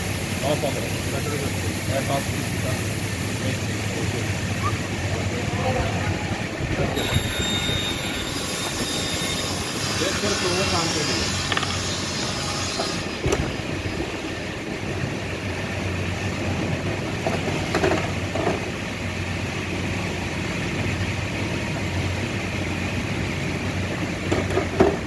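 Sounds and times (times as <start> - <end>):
workshop background hum: 0.0 - 25.0.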